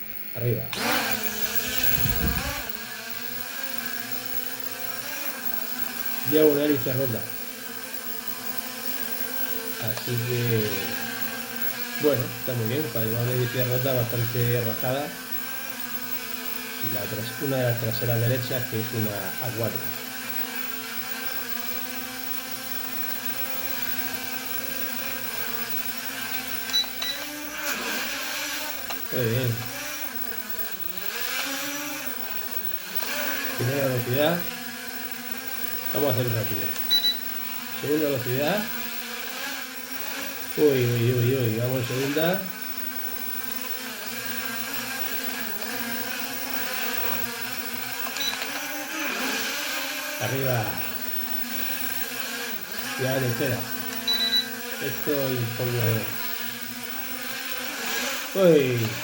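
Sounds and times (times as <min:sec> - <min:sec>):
quadcopter motors whining: 0:00.0 - 0:59.0
short clicks: 0:00.0 - 0:59.0.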